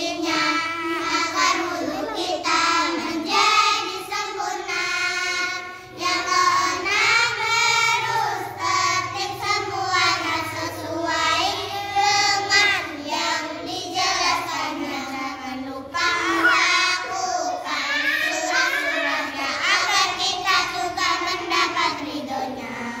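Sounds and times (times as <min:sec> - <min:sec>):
girls chanting together: 0:00.0 - 0:23.0.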